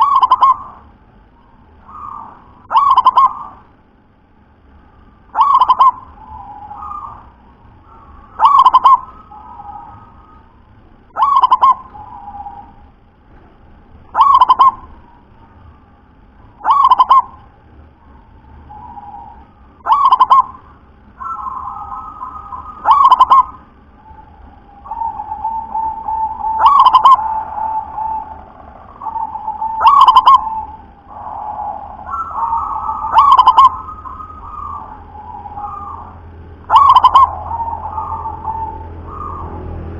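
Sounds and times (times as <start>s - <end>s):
dove cooing: 0.0s - 0.9s, 1.5s - 3.8s, 5.3s - 12.9s, 14.1s - 15.2s, 16.6s - 39.9s
dove trilling coos: 0.0s - 3.9s, 4.7s - 13.0s, 14.0s - 39.9s.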